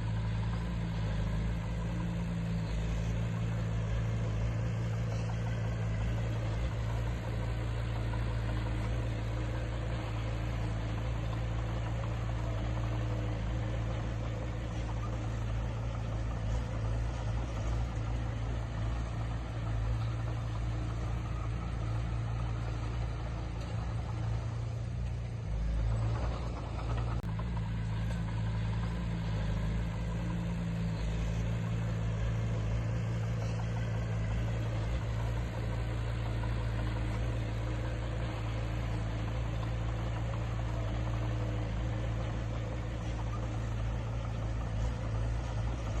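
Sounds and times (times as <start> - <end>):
diesel engine humming: 0.0 - 46.0.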